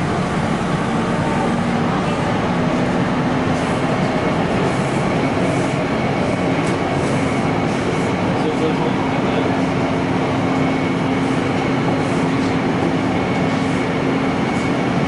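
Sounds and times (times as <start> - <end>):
low electric traction hum: 0.0 - 14.9
train rail and running noise: 0.0 - 15.0.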